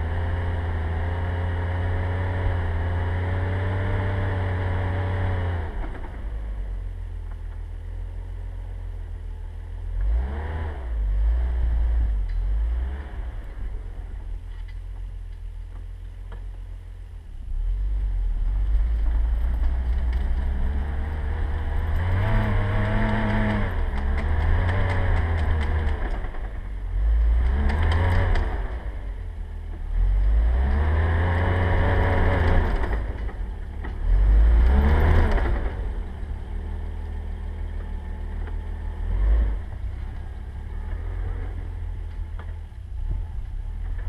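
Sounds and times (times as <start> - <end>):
engine revving: 0.0 - 6.6, 9.9 - 14.3, 17.5 - 44.0.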